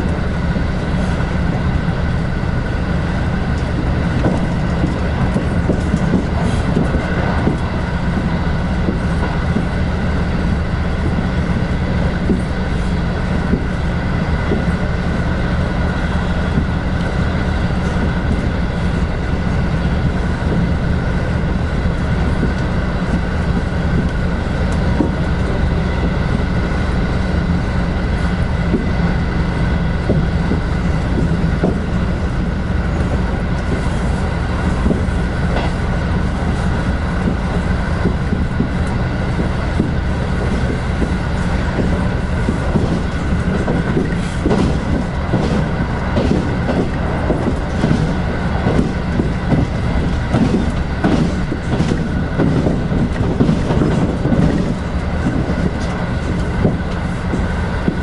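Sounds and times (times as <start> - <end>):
faint rail clicks: 0.0 - 58.0
train wheels running on rails: 0.0 - 58.0.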